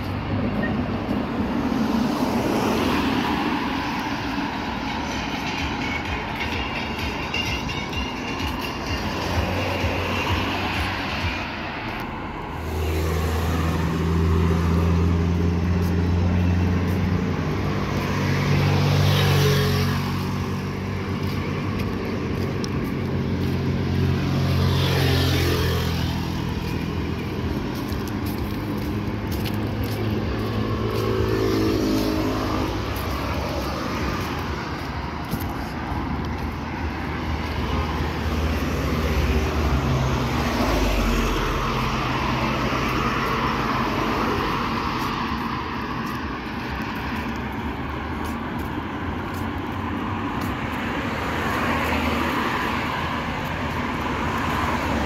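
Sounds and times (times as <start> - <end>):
car engines rumbling: 0.0 - 55.0
vehicles passing by: 0.0 - 55.0.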